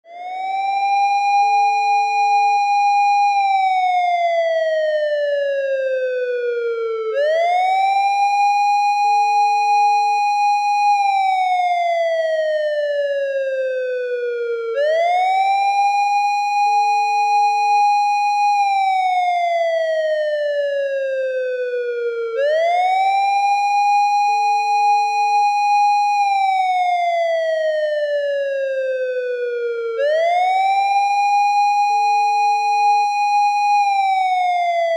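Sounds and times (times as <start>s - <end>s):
police car siren wailing: 0.1s - 34.9s.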